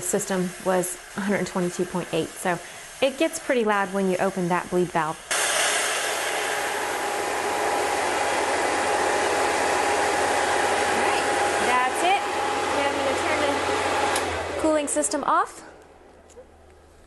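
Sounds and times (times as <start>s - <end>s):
air compressor hissing: 0.0s - 15.2s.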